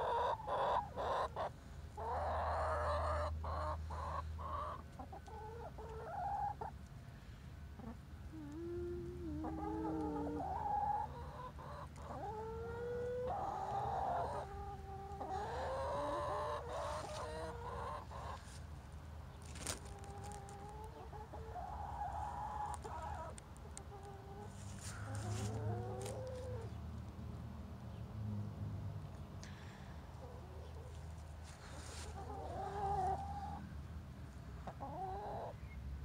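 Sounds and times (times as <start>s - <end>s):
hens clucking and calling: 0.0s - 6.8s, 7.8s - 18.7s, 19.4s - 26.8s, 30.1s - 33.7s, 34.5s - 35.6s.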